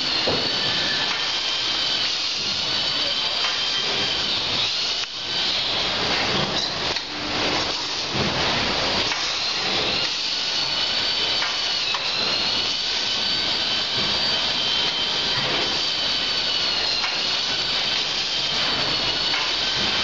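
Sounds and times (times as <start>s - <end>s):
machinery high whine: 0.0s - 20.0s
machinery mechanical hiss: 0.0s - 20.0s.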